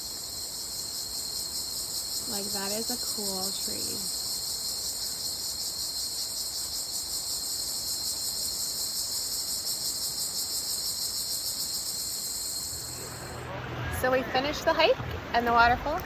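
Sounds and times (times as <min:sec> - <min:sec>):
insects buzzing: 0:00.0 - 0:13.4.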